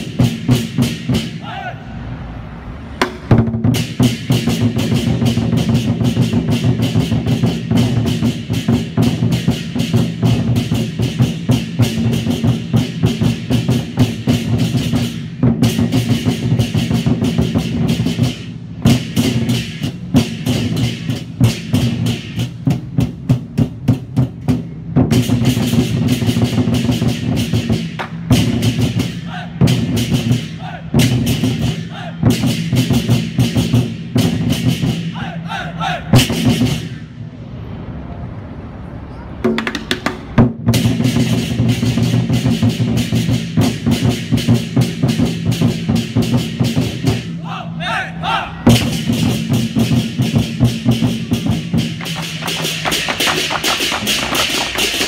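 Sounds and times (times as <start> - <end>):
barrel drums beaten with sticks: 0.0 - 1.4, 3.0 - 35.2, 36.1 - 36.9, 39.4 - 47.3, 48.7 - 55.0.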